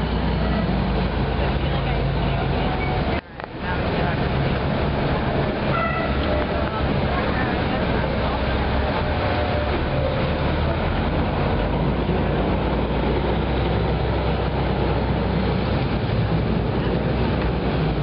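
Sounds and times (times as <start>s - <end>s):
engine rumble: 0.0s - 18.0s.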